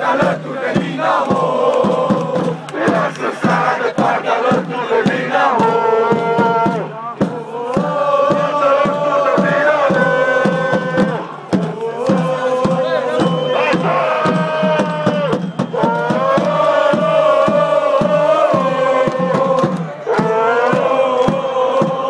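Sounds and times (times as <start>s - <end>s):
crowd singing a chant: 0.0s - 22.0s.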